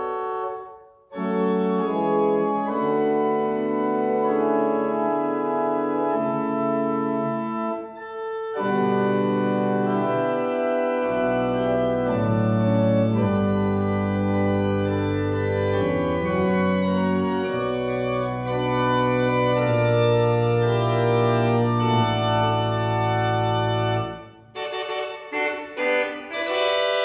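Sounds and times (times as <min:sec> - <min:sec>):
organ playing sustained chords: 0:00.0 - 0:27.0.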